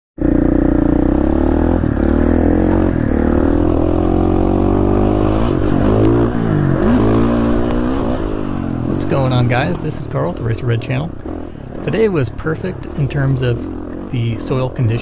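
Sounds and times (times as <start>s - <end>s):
dirt bike engine revving: 0.2s - 15.0s.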